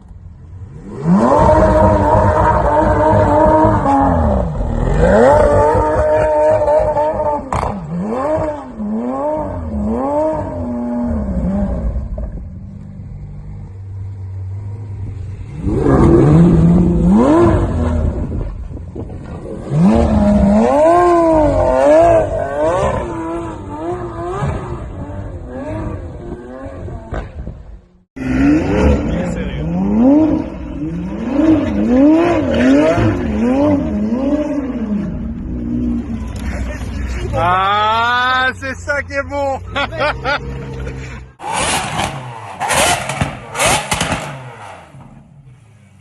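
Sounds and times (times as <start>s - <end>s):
car engine revving: 0.0s - 38.0s, 38.8s - 46.0s.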